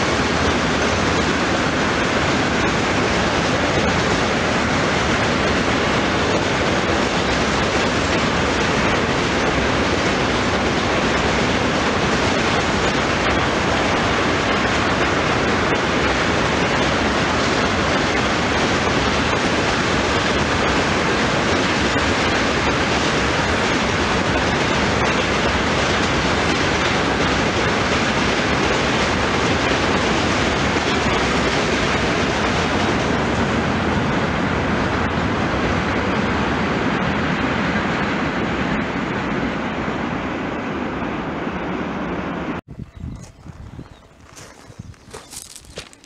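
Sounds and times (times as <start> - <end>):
train wheels rumbling on track: 0.0 - 46.0.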